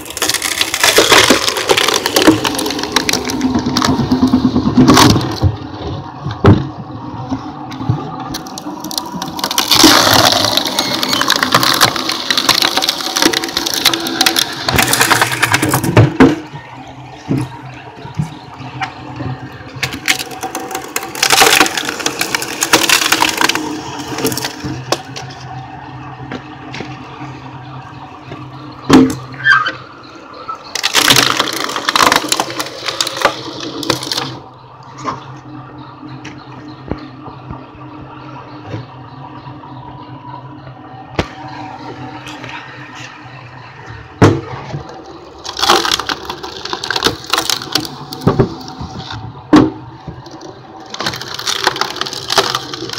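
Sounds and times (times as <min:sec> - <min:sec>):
wood cracking and splintering: 0:00.0 - 0:37.6, 0:41.1 - 0:52.9
log splitter motor humming: 0:00.0 - 0:52.9.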